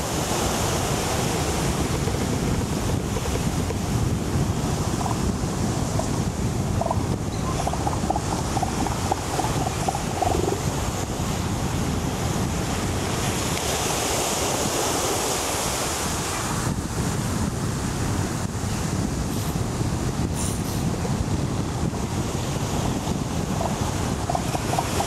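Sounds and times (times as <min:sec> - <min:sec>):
ocean surf: 0:00.0 - 0:25.0
wind buffeting microphone: 0:00.0 - 0:25.0.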